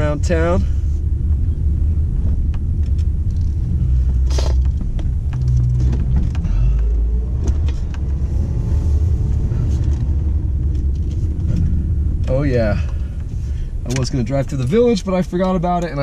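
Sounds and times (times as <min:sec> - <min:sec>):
car engine from inside cabin: 0:00.0 - 0:16.0
road rumble: 0:00.0 - 0:16.0.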